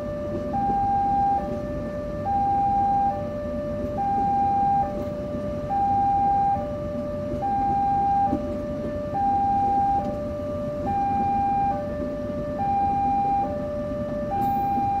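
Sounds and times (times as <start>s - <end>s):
train coaches rumbling: 0.0s - 3.0s, 3.6s - 15.0s
two-tone crossing alarm: 0.0s - 15.0s.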